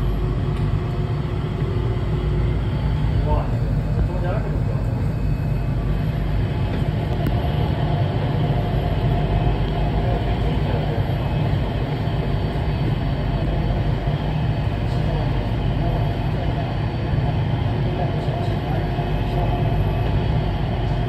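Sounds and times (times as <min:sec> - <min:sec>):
train cabin low rumble: 0:00.0 - 0:21.0.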